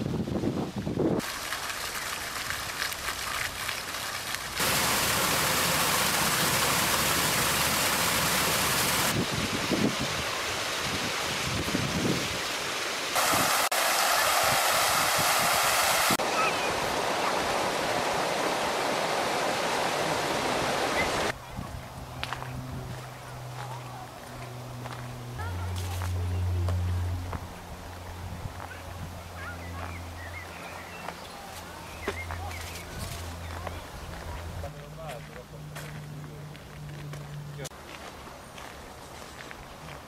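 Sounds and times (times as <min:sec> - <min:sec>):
rushing outdoor noise: 0:00.0 - 0:40.0.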